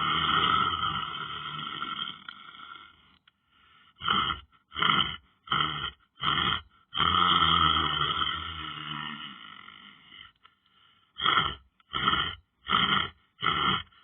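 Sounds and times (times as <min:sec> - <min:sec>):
man snoring: 0:00.0 - 0:03.2, 0:03.9 - 0:10.4, 0:11.1 - 0:14.0.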